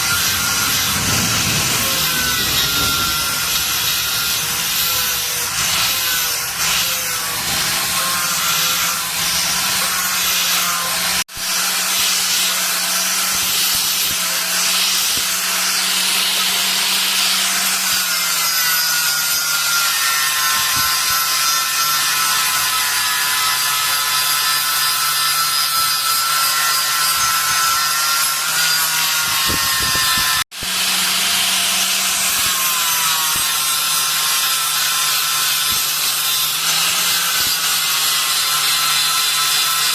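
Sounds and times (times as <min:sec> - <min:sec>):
power tool grinding metal: 0:00.0 - 0:39.9.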